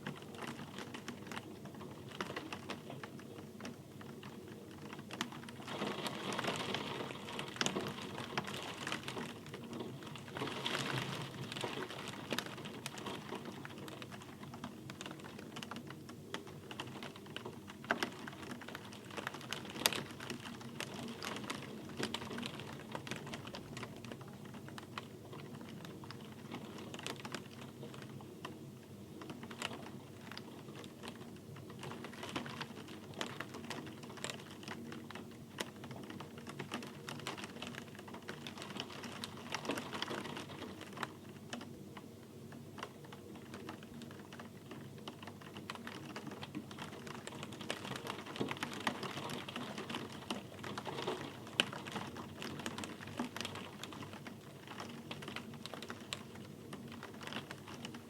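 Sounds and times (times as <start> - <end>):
rain drops ticking on hard surface: 0.0 - 58.0
soft rain hiss: 0.0 - 58.0.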